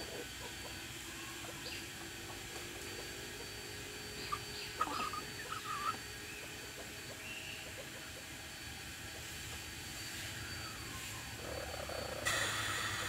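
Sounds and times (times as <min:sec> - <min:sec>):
roosters clucking alarm calls: 0:00.0 - 0:09.6, 0:11.4 - 0:13.0.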